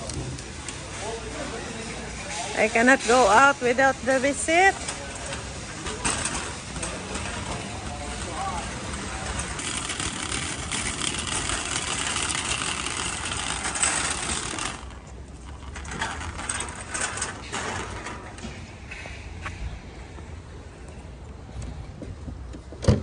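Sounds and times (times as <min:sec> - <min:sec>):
shopping cart rattling on pavement: 0:00.0 - 0:18.7.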